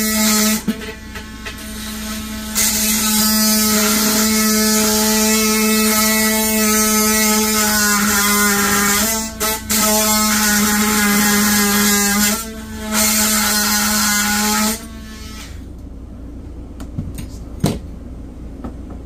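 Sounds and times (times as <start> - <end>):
power tool whining while cutting: 0.0 - 15.6.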